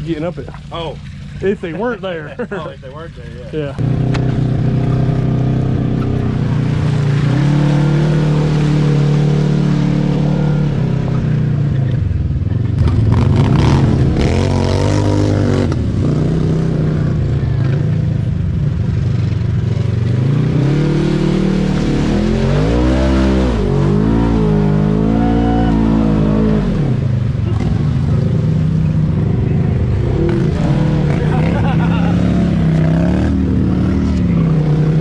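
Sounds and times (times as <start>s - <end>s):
atv engine revving: 0.0s - 35.0s
mud and water splashing: 0.0s - 35.0s.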